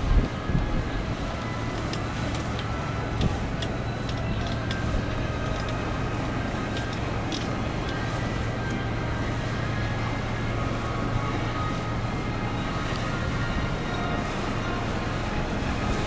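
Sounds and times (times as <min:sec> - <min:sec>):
low engine hum: 0:00.0 - 0:16.0
rumbling background noise: 0:00.0 - 0:16.0.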